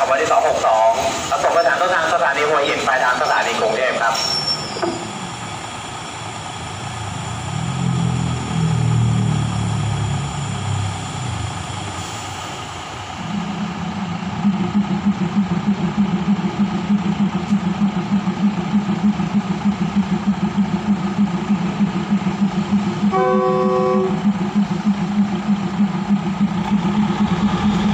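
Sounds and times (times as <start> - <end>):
diesel railcar engine running: 0.0 - 27.9.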